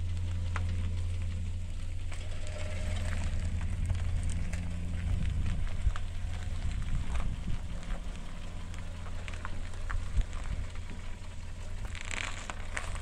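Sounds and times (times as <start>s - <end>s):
car engine low rumble: 0.0s - 13.0s
light crackles and clicks: 0.0s - 13.0s.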